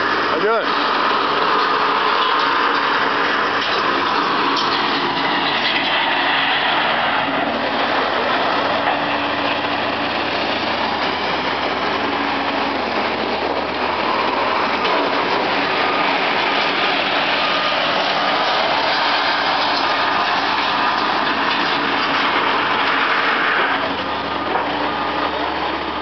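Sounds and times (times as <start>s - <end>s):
heavy truck engine running: 0.0s - 26.0s.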